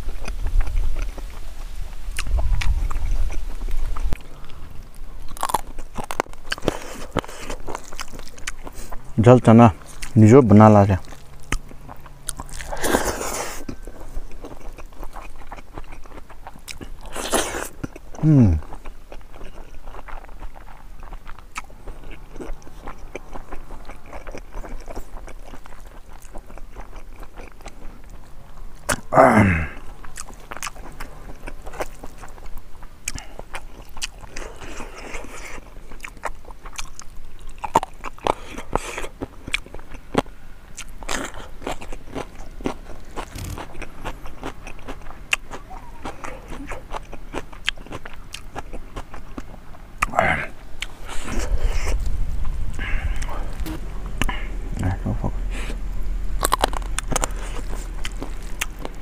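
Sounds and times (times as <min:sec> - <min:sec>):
close chewing with wet mouth noises: 0:00.0 - 0:29.2, 0:29.8 - 0:55.8, 0:56.4 - 0:59.0.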